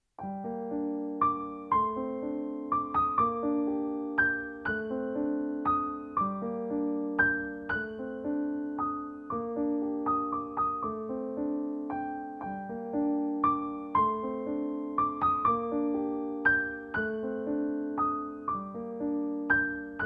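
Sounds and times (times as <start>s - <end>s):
calm piano melody: 0.0s - 20.0s.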